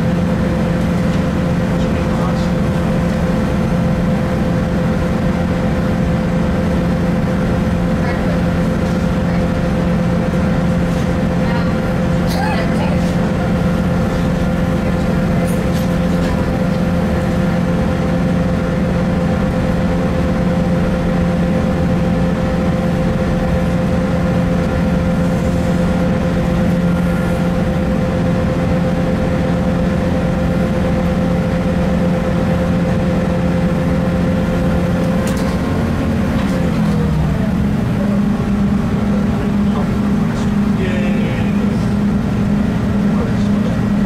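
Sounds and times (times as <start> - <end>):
diesel engine running: 0.0 - 44.0
wheel and track rumble: 0.0 - 44.0.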